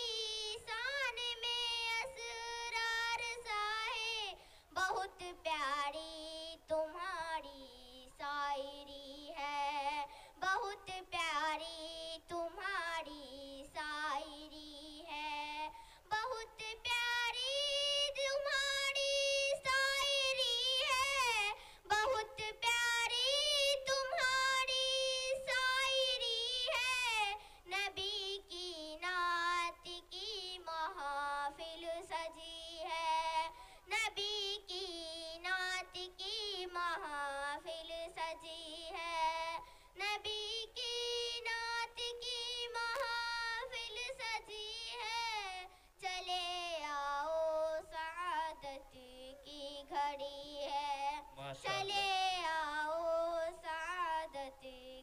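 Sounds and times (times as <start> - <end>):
girl singing unaccompanied: 0.0 - 55.0.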